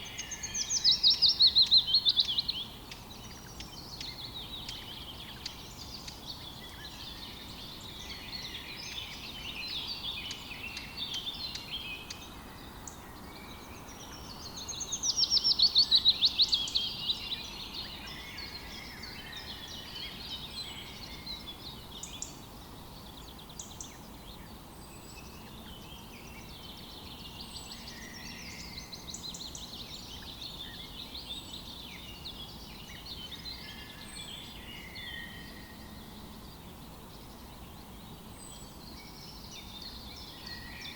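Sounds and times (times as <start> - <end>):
faint background hiss: 0.0 - 40.9
small birds chirping: 0.0 - 40.9.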